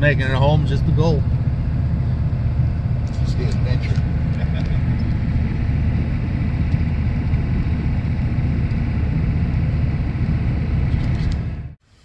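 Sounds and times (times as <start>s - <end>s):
truck engine rumble: 0.0s - 11.8s
tyres on road: 0.0s - 11.8s.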